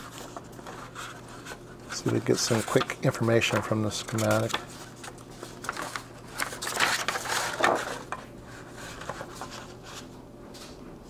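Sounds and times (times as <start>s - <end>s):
paper sheets rustling: 0.0s - 10.8s.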